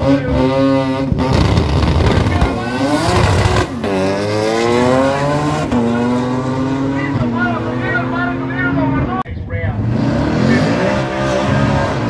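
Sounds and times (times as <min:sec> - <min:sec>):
drag race car accelerating: 0:00.0 - 0:12.0.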